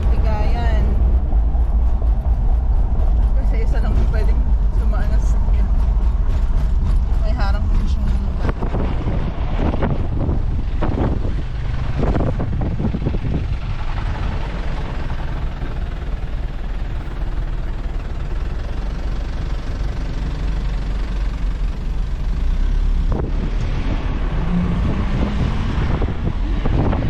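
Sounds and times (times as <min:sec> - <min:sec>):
wind buffeting microphone: 0:00.0 - 0:22.3, 0:22.9 - 0:27.0
vehicle rumble on road: 0:00.0 - 0:27.0.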